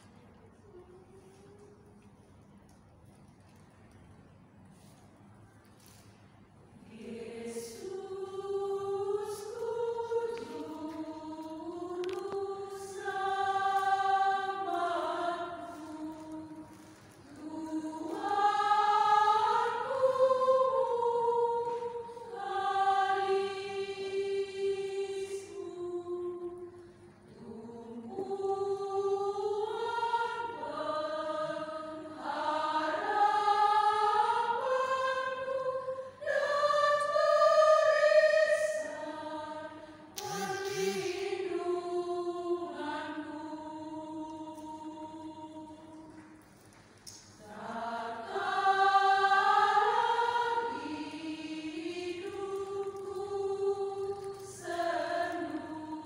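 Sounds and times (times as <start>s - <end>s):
women's choir singing a hymn: 6.8s - 56.0s.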